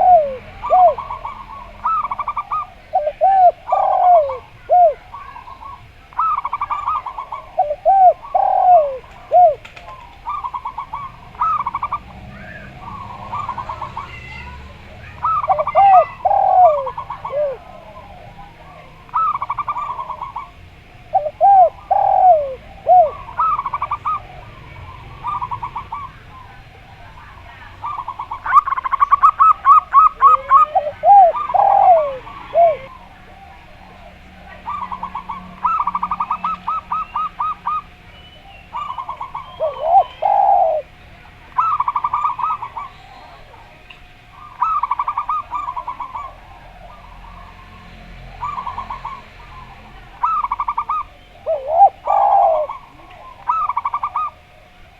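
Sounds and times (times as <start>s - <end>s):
dove cooing trills: 0.0s - 54.9s
low swooping dove coos: 0.0s - 54.9s.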